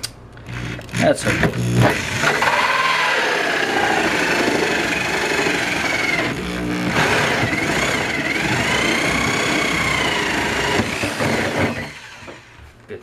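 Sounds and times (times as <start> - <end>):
electric drill whining: 0.4 - 12.6.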